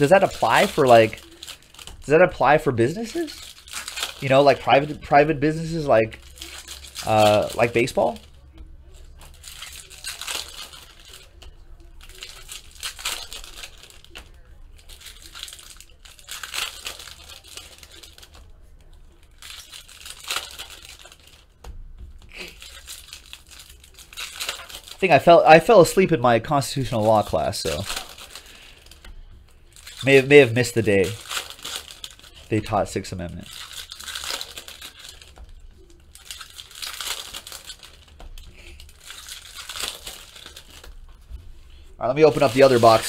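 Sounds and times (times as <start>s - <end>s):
foil wrappers tearing: 0.0s - 21.6s, 22.2s - 41.2s, 42.0s - 43.0s.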